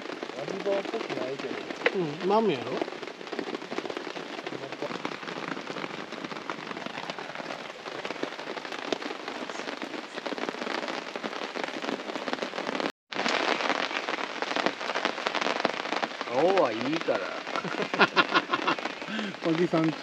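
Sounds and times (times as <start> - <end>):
rain pattering on a tarp: 0.0 - 20.0.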